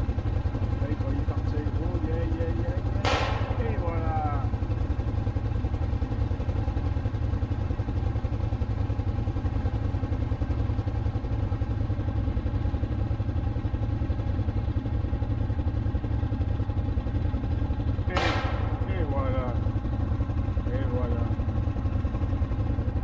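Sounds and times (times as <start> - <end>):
quad engine humming: 0.0 - 23.0.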